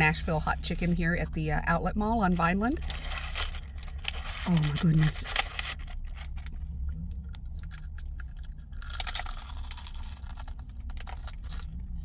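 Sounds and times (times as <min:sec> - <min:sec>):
low hum: 0:00.0 - 0:12.0
chewing and crunching food: 0:02.2 - 0:12.0.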